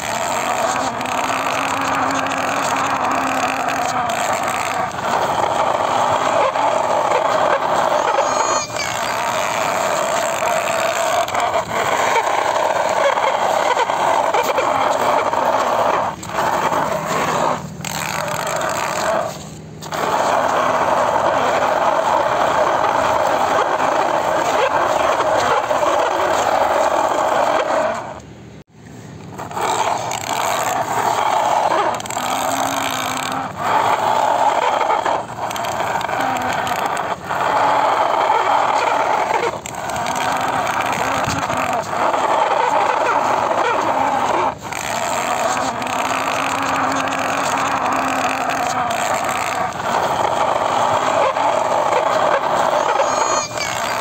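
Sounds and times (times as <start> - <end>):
plastic toy wheels scraping sand: 0.0 - 28.2, 29.0 - 54.0.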